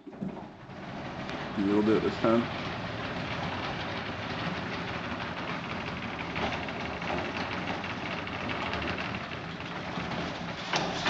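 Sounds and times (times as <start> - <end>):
garage door opener rumbling: 0.0 - 11.0.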